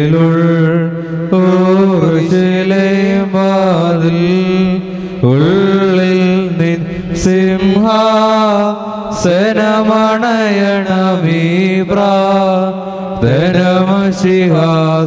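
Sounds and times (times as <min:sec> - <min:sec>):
liturgical chant: 0:00.0 - 0:15.0
steady low drone: 0:00.0 - 0:15.0.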